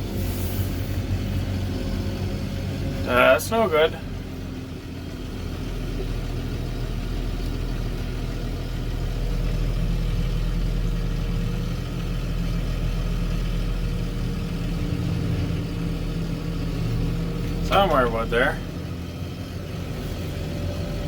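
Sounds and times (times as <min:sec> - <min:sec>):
loader engine running: 0:00.0 - 0:21.0.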